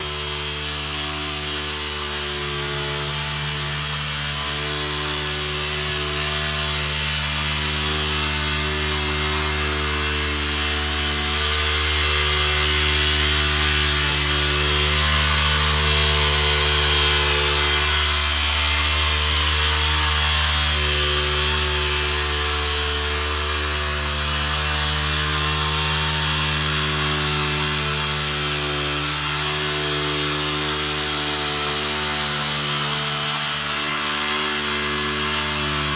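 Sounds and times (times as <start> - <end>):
machine motor drone: 0.0 - 35.9.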